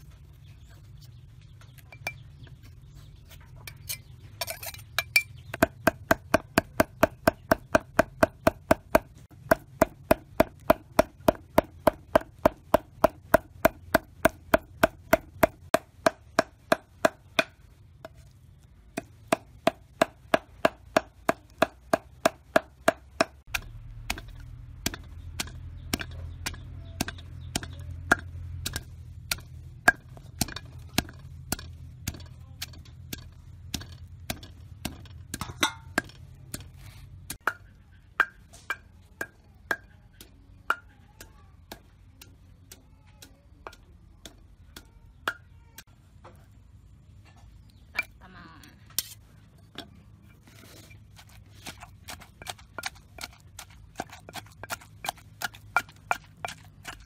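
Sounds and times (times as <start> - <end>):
pestle pounding in stone mortar: 5.0 - 18.2, 18.9 - 45.5, 50.6 - 57.0.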